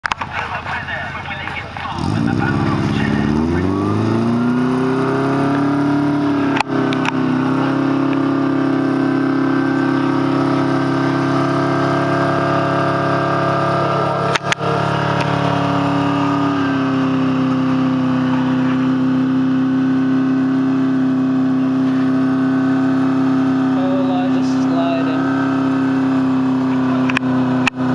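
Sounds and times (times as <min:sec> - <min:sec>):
engine revving under load: 0:01.8 - 0:27.9.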